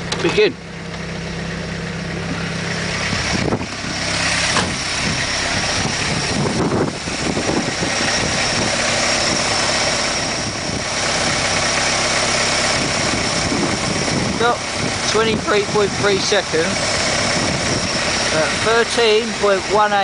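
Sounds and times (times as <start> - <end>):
van engine idling: 0.0 - 20.0.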